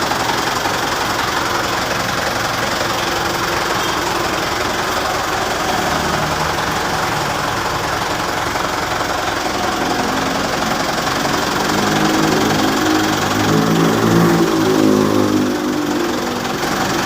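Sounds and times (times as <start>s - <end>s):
diesel bus engine idling: 0.0s - 17.0s.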